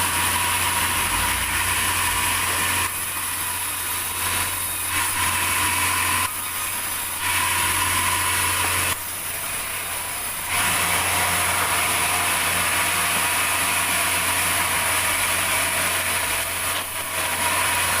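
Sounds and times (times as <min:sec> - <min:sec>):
sawmill saw cutting log: 0:00.0 - 0:18.0.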